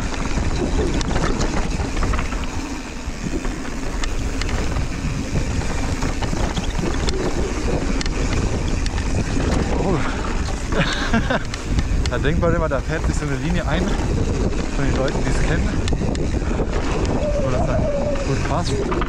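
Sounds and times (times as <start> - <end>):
bike clicks and rattles: 0.0 - 19.0
tyres rumbling on dirt: 0.0 - 19.0
wind buffeting microphone: 0.0 - 19.0.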